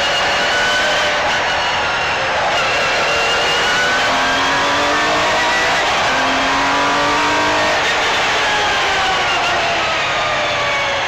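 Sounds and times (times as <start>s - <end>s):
rally car engine accelerating: 0.0s - 10.1s.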